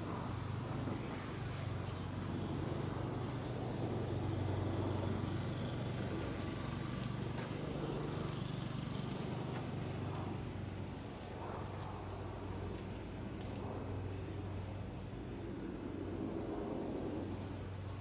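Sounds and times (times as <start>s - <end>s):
low mechanical hum: 0.0s - 18.0s
outdoor background noise: 0.0s - 18.0s.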